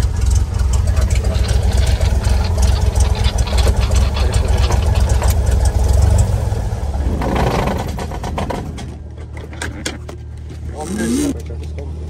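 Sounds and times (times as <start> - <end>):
small plane engine drone: 0.0 - 12.0.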